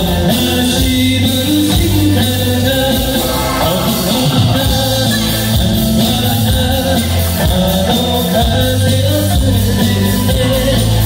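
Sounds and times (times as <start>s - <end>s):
lute band playing live: 0.0s - 11.0s
steady bass line: 0.0s - 11.0s
person singing: 0.1s - 11.0s.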